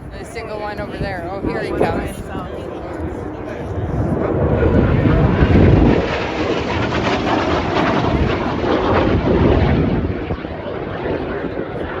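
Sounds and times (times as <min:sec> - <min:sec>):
aircraft engine rushing: 0:00.0 - 0:12.0.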